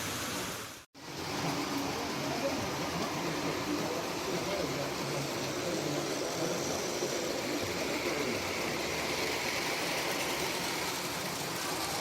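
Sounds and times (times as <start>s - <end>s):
model train running on track: 1.0s - 12.0s.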